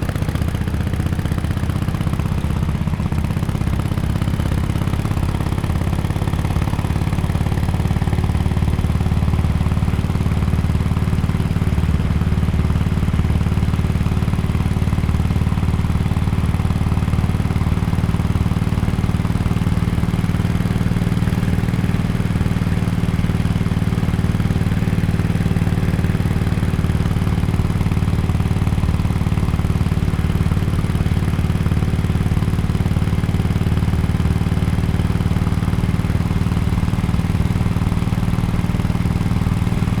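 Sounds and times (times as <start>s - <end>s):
motorcycle engine running steadily: 0.0s - 40.0s.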